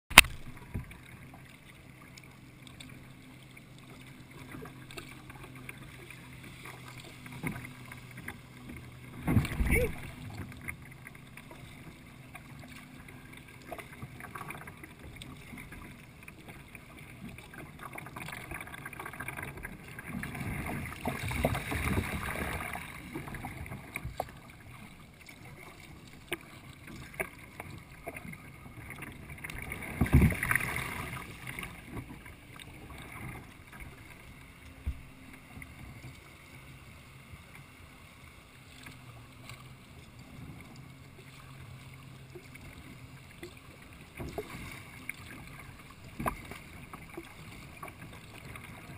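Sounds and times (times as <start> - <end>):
water lapping against kayak hull: 0.1 - 48.9.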